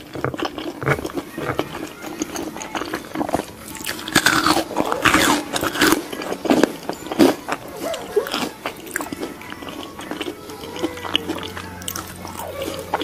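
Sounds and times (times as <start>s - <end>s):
child gnawing and chewing: 0.0s - 13.0s
child vocal sounds: 0.6s - 6.3s, 7.0s - 13.0s.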